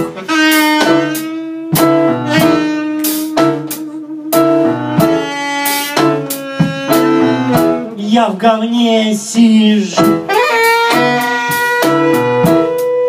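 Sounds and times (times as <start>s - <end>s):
saxophone: 0.0s - 8.0s, 10.0s - 13.0s
electric keyboard: 0.0s - 13.0s.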